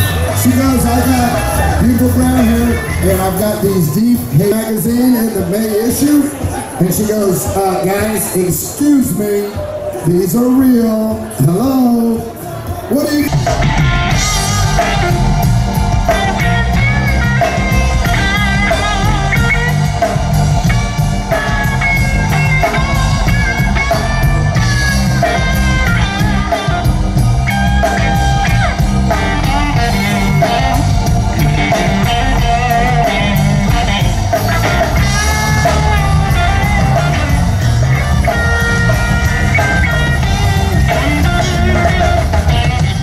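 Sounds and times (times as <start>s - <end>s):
electric guitar solo: 0.0s - 5.7s, 13.2s - 43.0s
bass guitar: 0.0s - 8.8s, 12.2s - 43.0s
drums: 0.0s - 43.0s.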